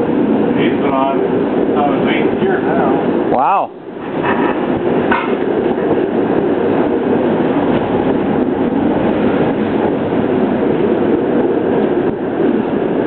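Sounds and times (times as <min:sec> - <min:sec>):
streetcar wheels rumbling on rail: 0:00.0 - 0:13.0.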